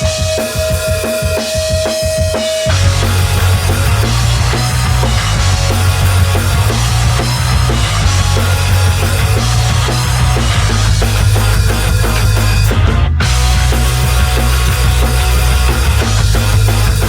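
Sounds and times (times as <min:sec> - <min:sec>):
drum kit: 0:00.0 - 0:17.0
rock band playing: 0:00.0 - 0:17.0.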